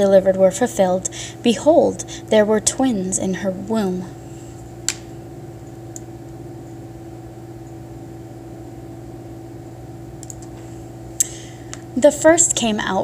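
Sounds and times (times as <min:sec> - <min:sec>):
low machine hum with tones: 0:00.0 - 0:13.0.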